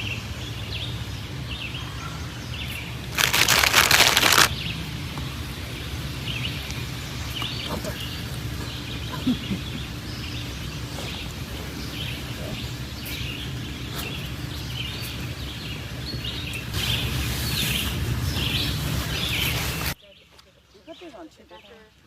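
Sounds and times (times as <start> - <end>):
low outdoor rumble: 0.0 - 20.2
small birds chirping: 0.0 - 22.0.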